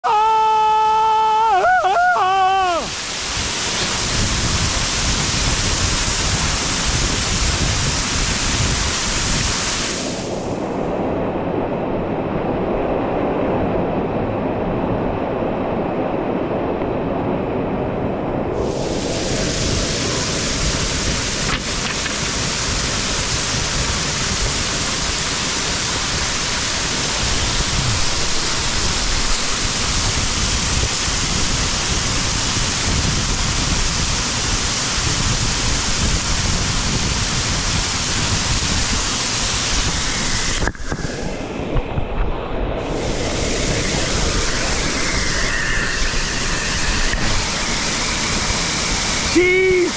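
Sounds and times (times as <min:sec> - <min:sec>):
rushing creek water: 0:01.8 - 0:12.3, 0:18.6 - 0:49.9.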